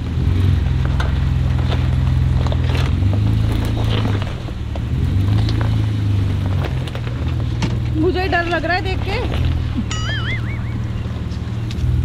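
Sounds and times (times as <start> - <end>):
tyres and body scraping: 0.0 - 10.0
suv engine at low revs: 0.0 - 12.0.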